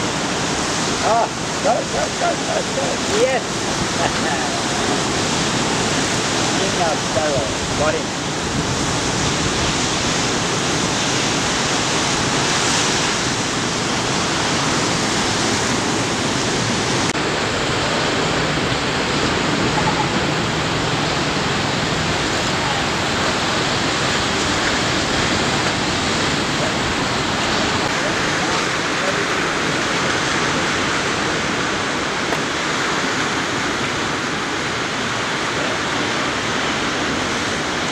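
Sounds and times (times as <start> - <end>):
ocean surf breaking: 0.0 - 37.9.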